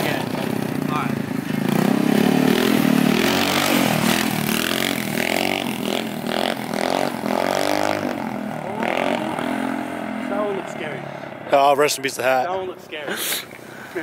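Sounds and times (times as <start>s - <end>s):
scooter engine revving: 0.0s - 11.6s.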